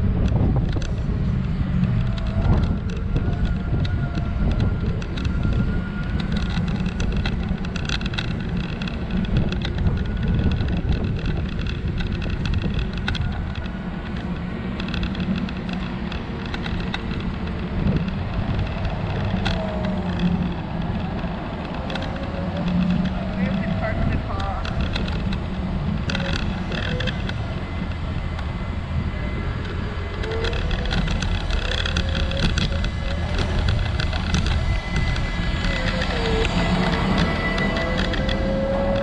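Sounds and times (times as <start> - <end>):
scooter tyres rolling: 0.0 - 39.0
wind noise on microphone: 0.0 - 39.0.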